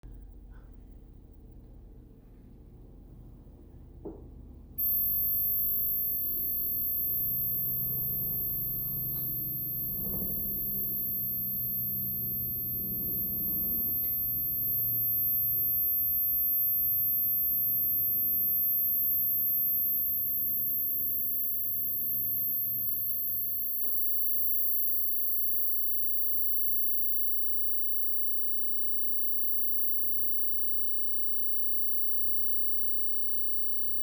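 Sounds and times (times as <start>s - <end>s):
low electrical hum: 0.1s - 34.0s
faint lower tones: 4.8s - 34.0s
high-pitched beeper whine: 4.8s - 34.0s.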